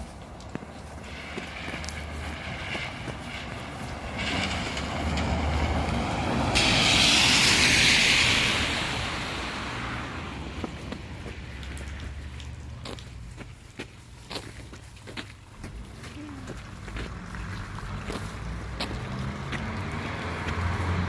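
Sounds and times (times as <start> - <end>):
vehicle passing by: 0.8 - 13.0, 15.6 - 21.0.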